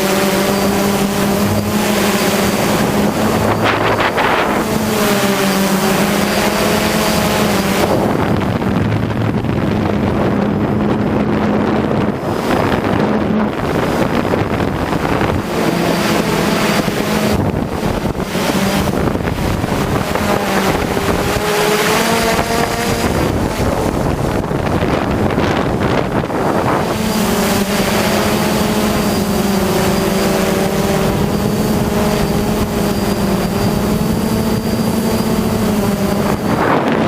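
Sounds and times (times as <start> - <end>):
drone motors humming: 0.0 - 37.0
wind buffeting the microphone: 0.0 - 37.0.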